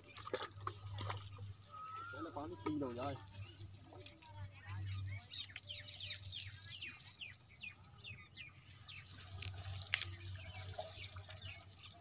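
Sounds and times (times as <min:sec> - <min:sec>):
bird chirping: 0:01.0 - 0:12.0.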